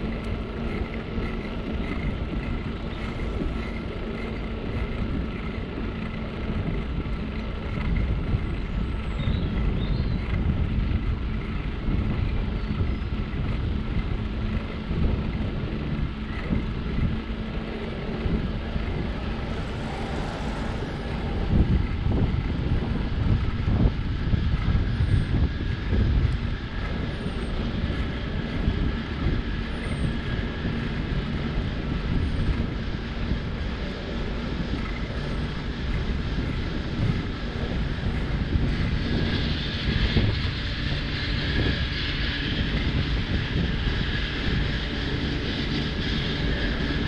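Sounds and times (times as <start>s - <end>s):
tyres rolling on asphalt: 0.0s - 41.0s
wind rumbling on microphone: 0.0s - 47.0s.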